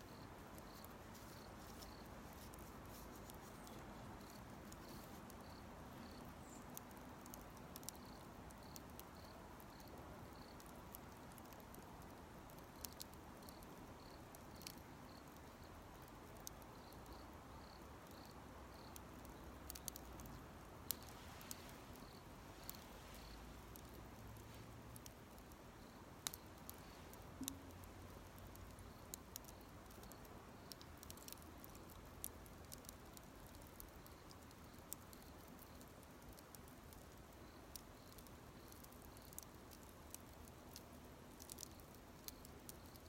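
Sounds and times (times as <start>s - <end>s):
campfire crackling and popping: 0.0s - 43.0s
insect chirping: 0.0s - 43.0s.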